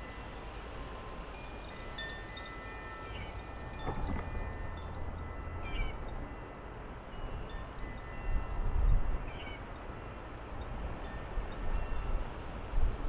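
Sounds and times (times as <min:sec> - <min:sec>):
wind chimes ringing: 0:00.0 - 0:13.0
wind rumble on microphone: 0:00.0 - 0:13.0.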